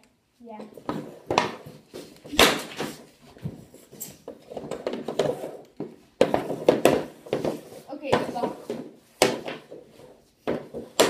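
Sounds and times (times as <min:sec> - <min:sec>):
pucks striking hard surfaces: 0:00.7 - 0:11.0
hockey stick cracking on puck: 0:00.9 - 0:03.1, 0:04.1 - 0:11.0.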